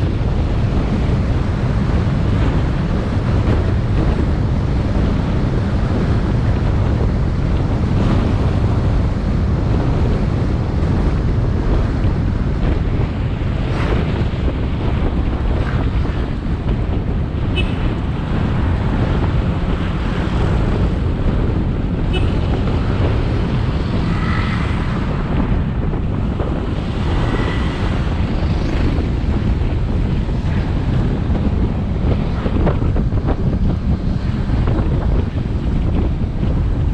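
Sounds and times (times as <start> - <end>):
road noise: 0.0 - 36.9
wind rushing over microphone: 0.0 - 36.9.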